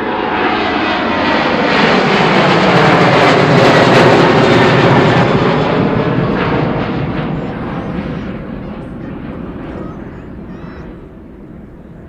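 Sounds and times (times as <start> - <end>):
aircraft engines roaring past: 0.0 - 12.0.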